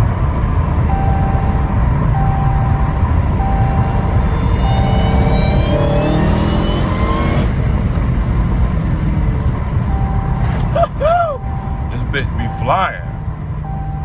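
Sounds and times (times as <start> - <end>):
car engine accelerating hard: 0.0 - 12.5
low engine and road noise: 0.0 - 14.0.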